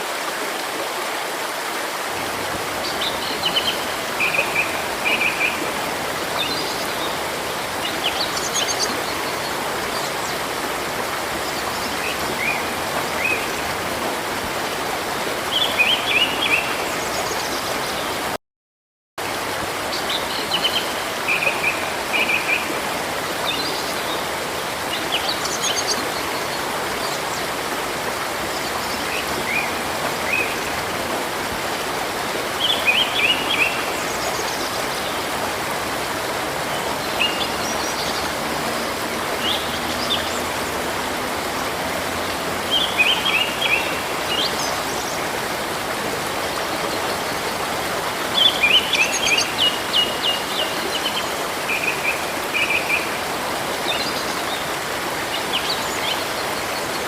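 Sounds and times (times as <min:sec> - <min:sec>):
river water flowing: 0:00.0 - 0:18.4, 0:19.2 - 0:57.0.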